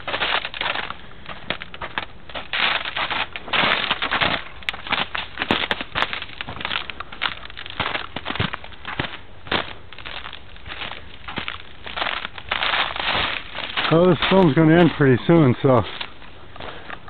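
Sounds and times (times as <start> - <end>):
brush crackling: 0.0 - 17.0
footsteps crunching through snow: 0.0 - 17.0.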